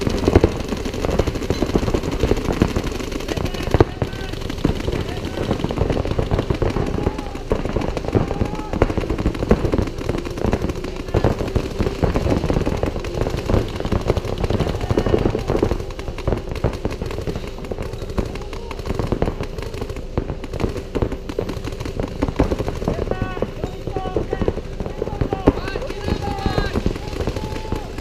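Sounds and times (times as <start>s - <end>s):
paintball markers firing: 0.0s - 28.0s
steady hum: 0.0s - 28.0s.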